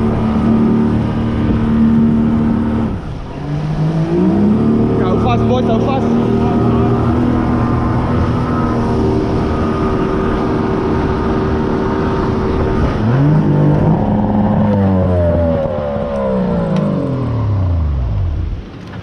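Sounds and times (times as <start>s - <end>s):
outboard engine revving: 0.0s - 18.7s.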